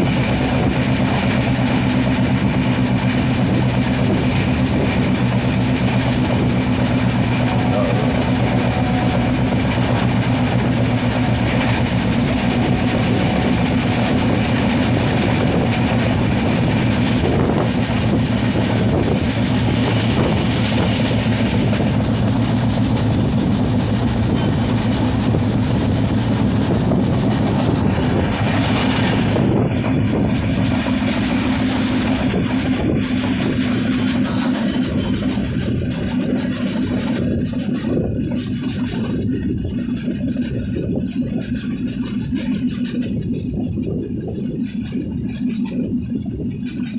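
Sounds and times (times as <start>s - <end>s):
low hum: 0.0s - 46.9s
train wheels rumbling on rails: 0.0s - 46.9s.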